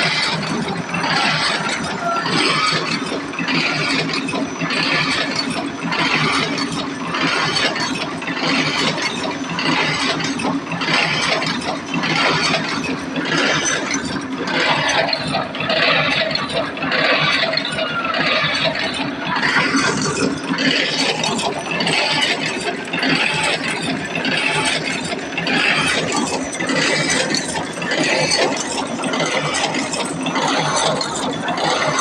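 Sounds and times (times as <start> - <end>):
steady motor hum: 0.0 - 32.0.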